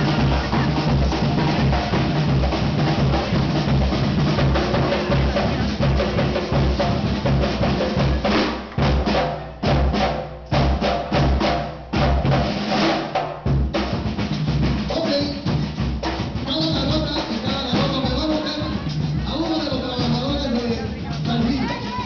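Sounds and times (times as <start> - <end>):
samba percussion band drumming: 0.0 - 22.0.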